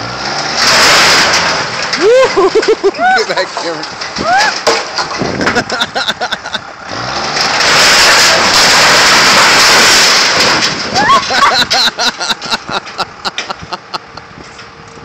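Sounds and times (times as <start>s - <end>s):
metal debris clanking and rattling: 0.0s - 14.8s
sheet metal crashing and grinding: 0.2s - 13.7s.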